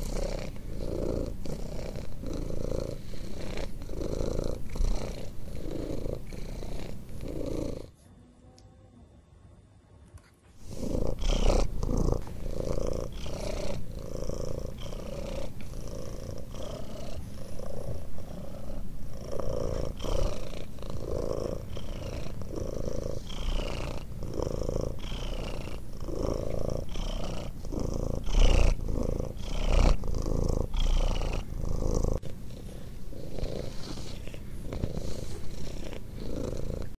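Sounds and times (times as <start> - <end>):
cat purring loudly: 0.0 - 7.9, 10.6 - 37.0.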